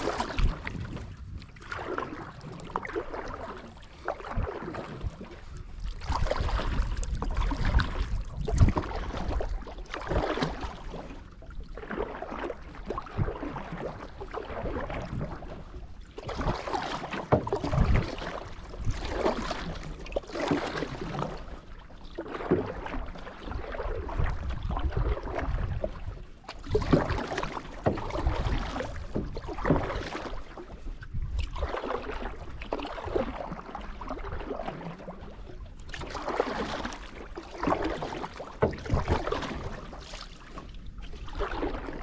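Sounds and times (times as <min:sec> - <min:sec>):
paddle splashing in water: 0:00.0 - 0:42.0.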